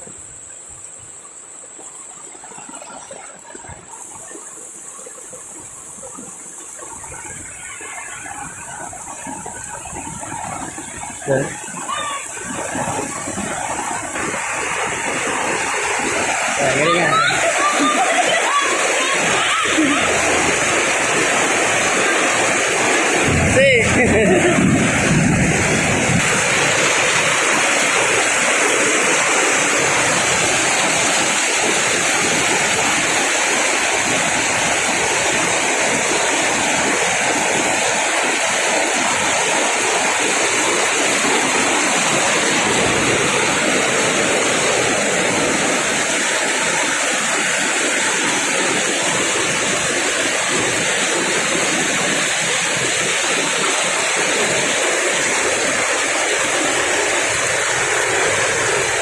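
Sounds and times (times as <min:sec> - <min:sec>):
heavy rain pouring: 0:03.6 - 0:59.0.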